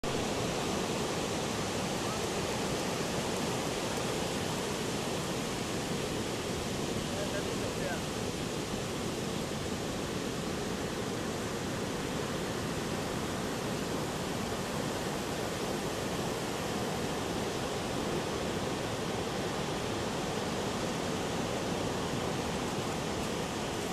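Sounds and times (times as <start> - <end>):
heavy ocean surf: 0.0 - 23.9.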